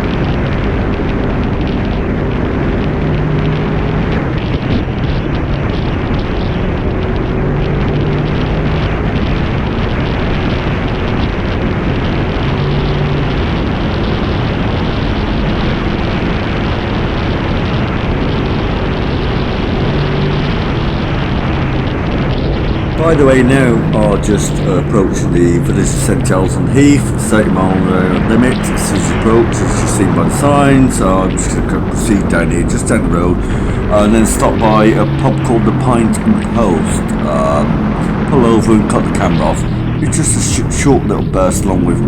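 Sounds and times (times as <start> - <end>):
motorcycle engine drone: 0.0 - 42.0
wind rush: 0.0 - 42.0.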